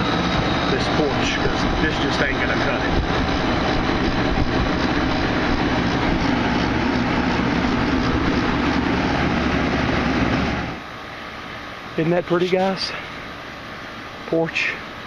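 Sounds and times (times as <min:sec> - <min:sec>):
air conditioning unit running: 0:00.0 - 0:15.0.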